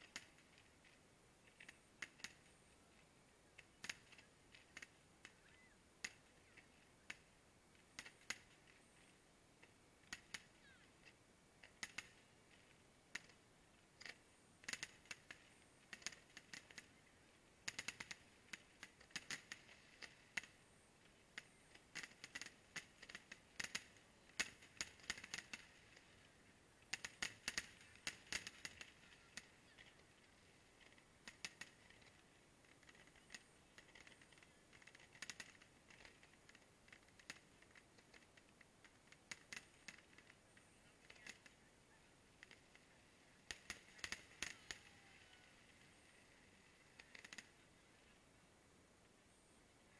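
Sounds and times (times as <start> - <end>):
faint crackling fireworks: 0.0 - 49.9.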